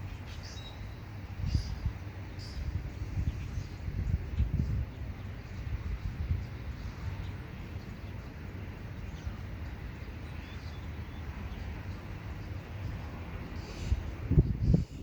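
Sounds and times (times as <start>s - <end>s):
wind buffeting microphone: 1.0s - 15.0s.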